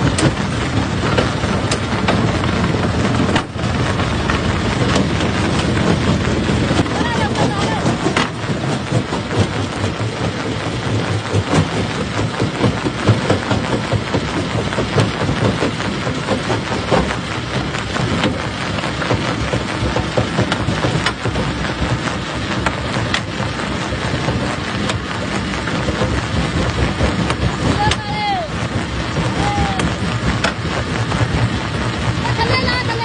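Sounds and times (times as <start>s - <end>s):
stone crusher rumble: 0.0s - 33.0s.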